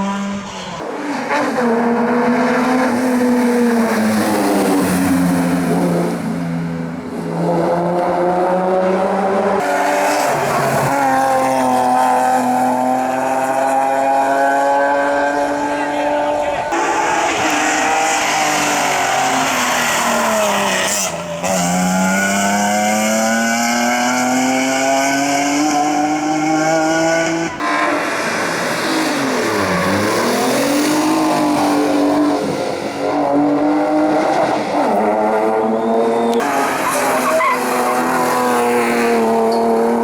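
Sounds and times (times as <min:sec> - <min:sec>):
race car engine accelerating: 0:00.0 - 0:40.0.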